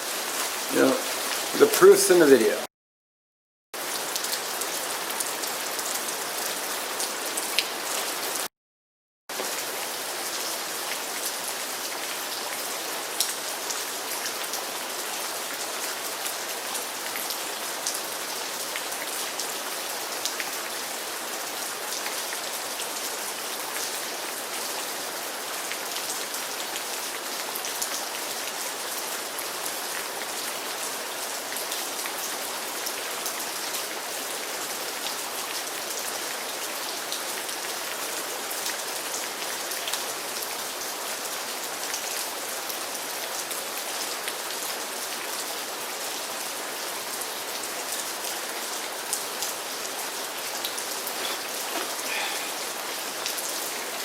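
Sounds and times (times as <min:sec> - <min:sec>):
steady rain falling: 0:00.0 - 0:02.7, 0:03.8 - 0:08.5, 0:09.3 - 0:54.0.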